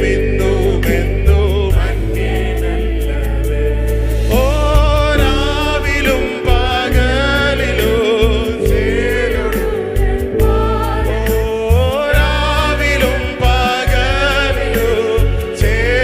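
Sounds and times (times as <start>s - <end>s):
low instrumental accompaniment: 0.0s - 16.0s
person singing worship song: 0.0s - 16.0s.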